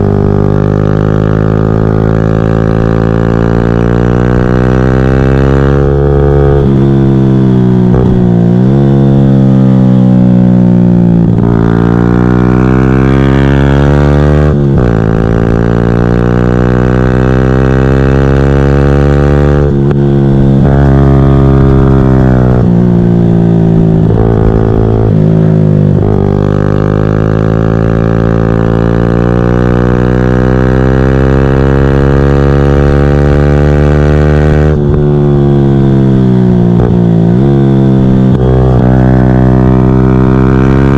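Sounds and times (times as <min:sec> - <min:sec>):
motorcycle engine revving hard: 0:00.0 - 0:40.9.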